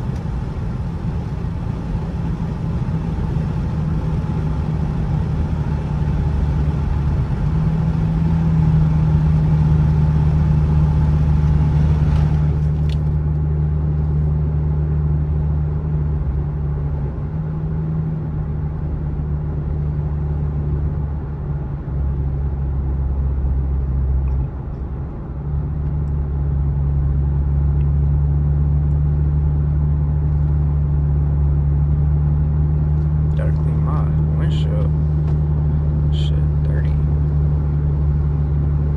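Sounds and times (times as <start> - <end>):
low exhaust drone: 0.0 - 38.9
road noise: 0.0 - 38.9.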